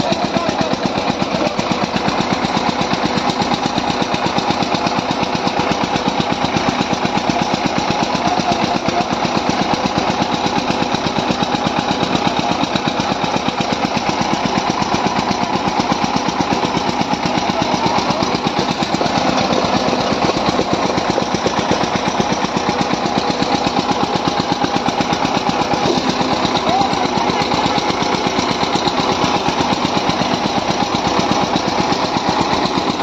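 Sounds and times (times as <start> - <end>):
tractor diesel engines under load: 0.0 - 33.0.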